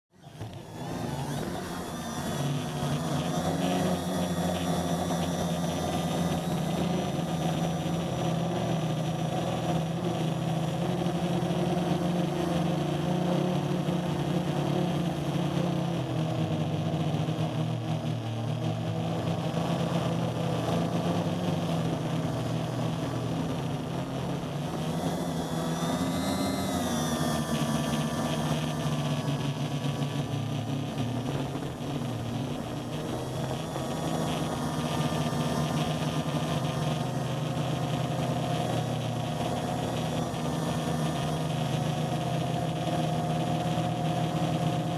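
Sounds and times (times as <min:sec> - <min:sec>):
drone propellers buzzing: 0:00.1 - 0:44.9.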